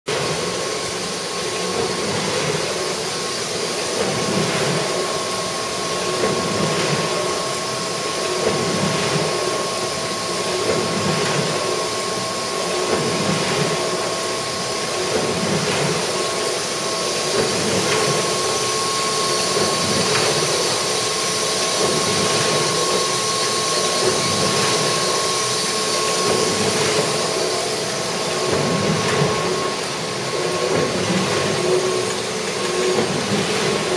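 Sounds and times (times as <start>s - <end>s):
low mechanical churning: 0.1s - 33.9s
machine whine: 0.1s - 33.9s
press machine humming: 0.1s - 33.9s.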